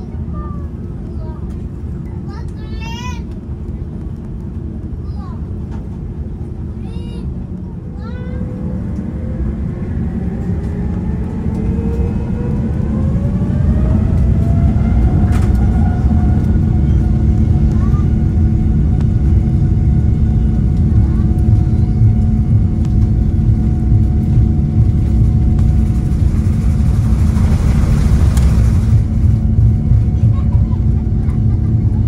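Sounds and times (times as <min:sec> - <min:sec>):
jet engine whine: 0:00.0 - 0:32.0
low engine rumble: 0:00.0 - 0:32.0.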